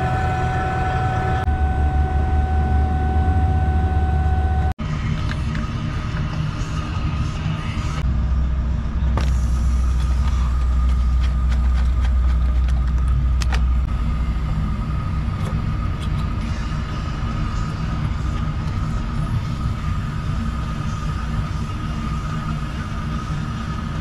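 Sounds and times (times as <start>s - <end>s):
vacuum pump rumbling with whine: 0.0s - 24.0s.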